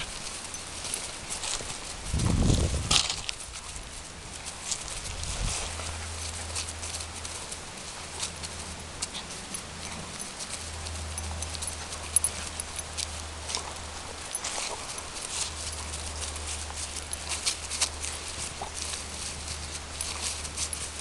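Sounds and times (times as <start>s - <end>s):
paws scuffling on dry leaves: 0.0s - 21.0s.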